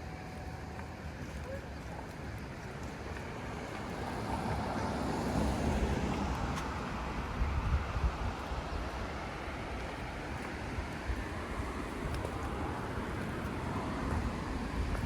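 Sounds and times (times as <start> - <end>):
ocean surf on beach: 2.2 - 15.0
wind buffeting microphone: 2.2 - 15.0.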